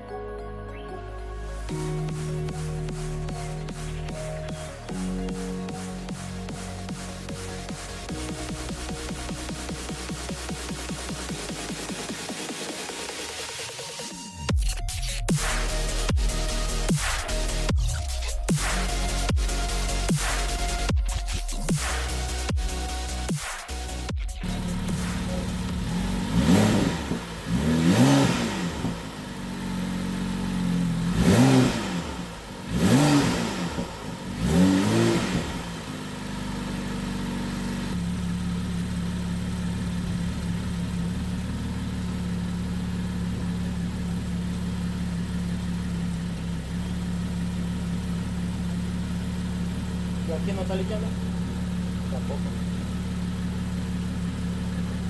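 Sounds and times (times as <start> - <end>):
car engine revving and idling: 1.4 - 55.0.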